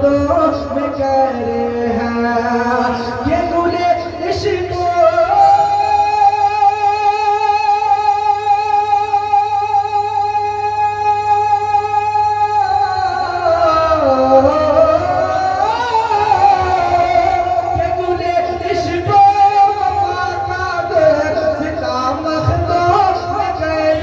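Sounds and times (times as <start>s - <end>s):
man singing over pa: 0.0s - 24.0s.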